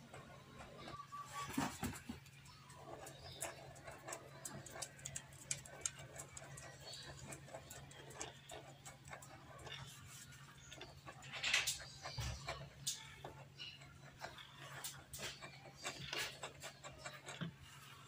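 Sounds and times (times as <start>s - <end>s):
bit scratching plastic: 0.0s - 18.0s.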